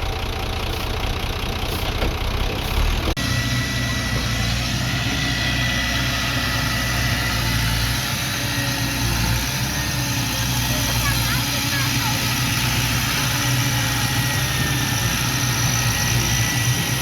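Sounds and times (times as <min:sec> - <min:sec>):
diesel engine running at low revs: 0:00.0 - 0:17.0.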